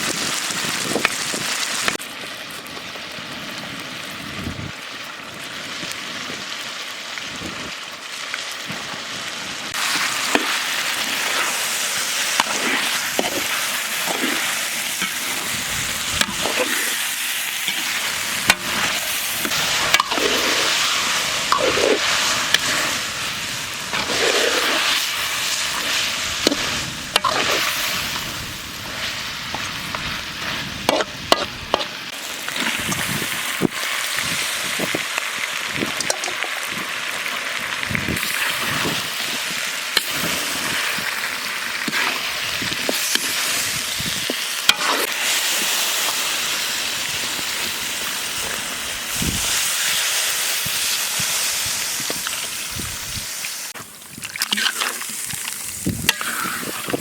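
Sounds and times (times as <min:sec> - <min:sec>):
food sizzling: 0:00.0 - 0:57.0.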